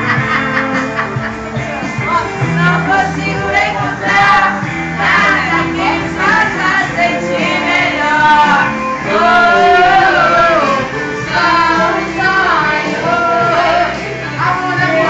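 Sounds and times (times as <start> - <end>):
karaoke backing track: 0.0 - 15.0
women singing together: 2.0 - 15.0.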